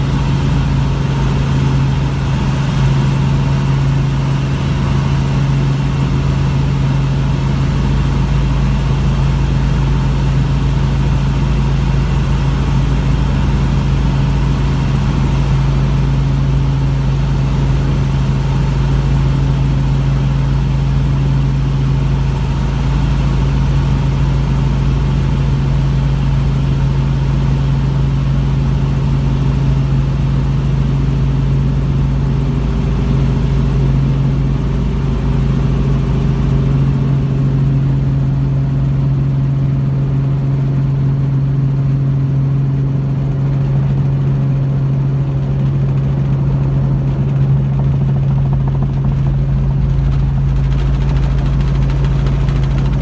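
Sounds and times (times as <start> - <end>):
helicopter rotor and engine drone: 0.0 - 53.0.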